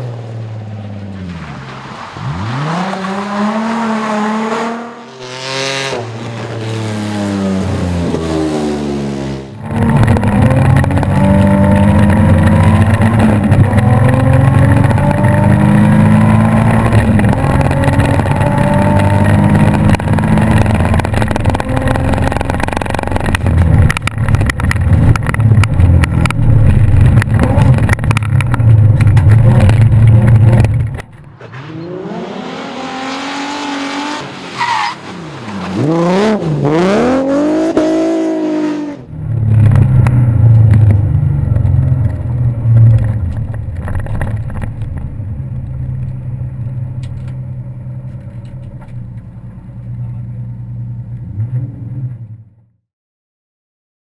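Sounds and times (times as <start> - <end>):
rally car engine revving: 0.0 - 52.4.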